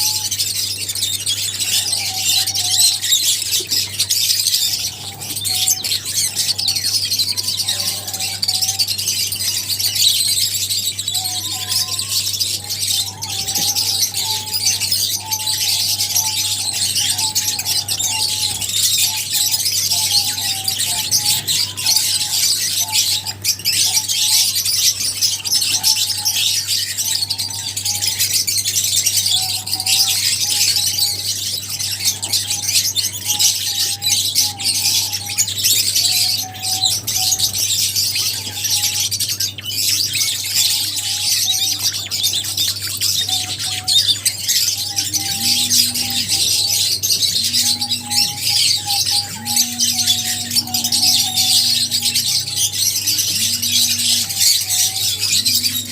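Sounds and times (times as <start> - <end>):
lovebirds chattering: 0.0 - 55.9
steady low hum: 0.0 - 55.9.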